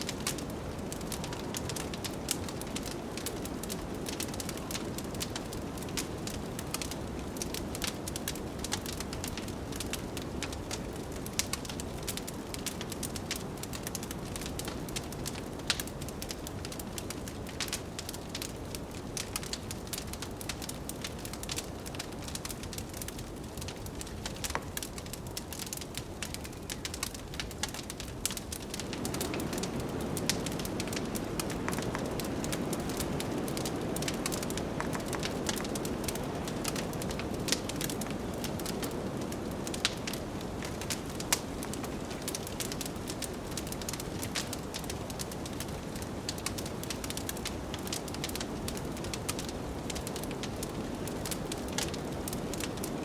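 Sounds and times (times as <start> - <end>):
blizzard wind: 0.0 - 53.0
wood fire crackling and popping: 0.0 - 53.0.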